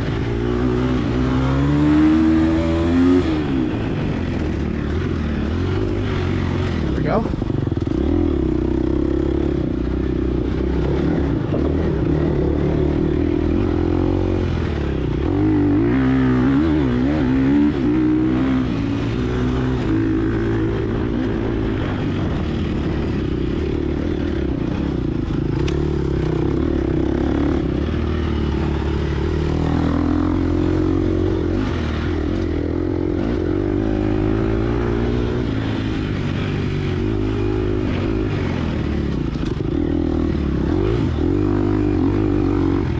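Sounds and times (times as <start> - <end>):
dirt bike engine revving: 0.0 - 9.4, 10.4 - 23.0, 25.5 - 42.9.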